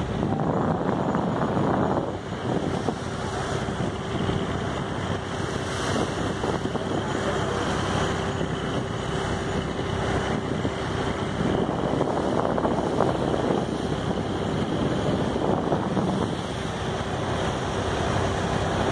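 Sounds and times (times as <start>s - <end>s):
sea waves washing: 0.0s - 18.9s
wind buffeting microphone: 0.0s - 18.9s.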